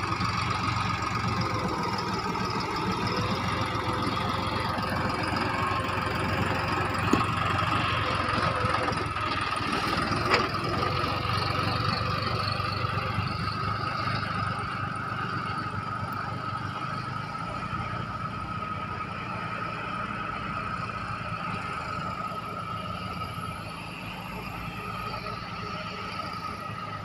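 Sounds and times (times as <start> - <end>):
high-pitched whine: 0.0 - 27.0
tractor diesel engine running: 0.0 - 27.0.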